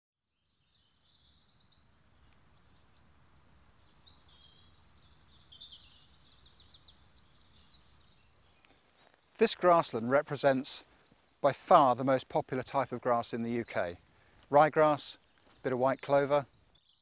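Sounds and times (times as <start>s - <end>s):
birdsong chirps and trills: 0.3s - 17.0s.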